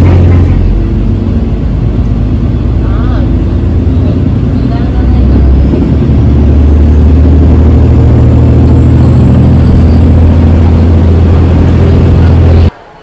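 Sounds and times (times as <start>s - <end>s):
diesel train engine drone: 0.0s - 13.0s.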